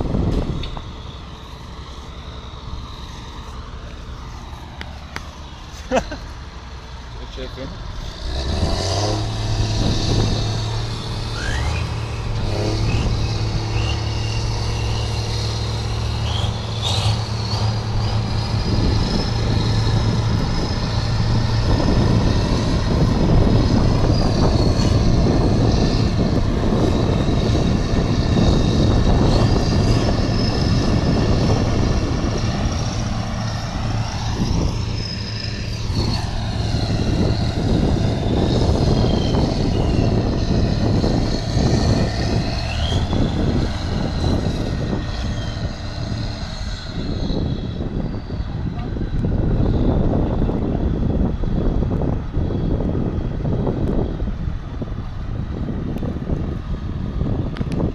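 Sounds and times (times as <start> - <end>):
heavy diesel engines under load: 0.0 - 57.9.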